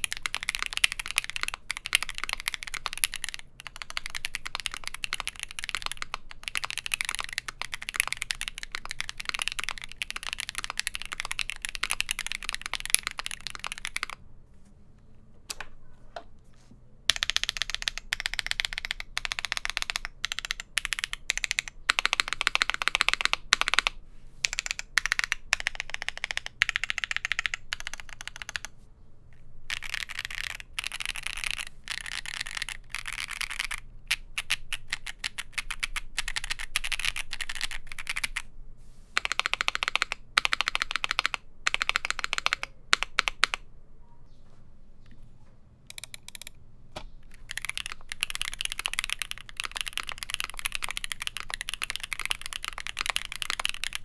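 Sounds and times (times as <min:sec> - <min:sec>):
mechanical keyboard typing: 0:00.0 - 0:14.2, 0:17.1 - 0:28.7, 0:29.7 - 0:38.5, 0:39.2 - 0:43.6, 0:45.9 - 0:46.6, 0:47.2 - 0:54.0.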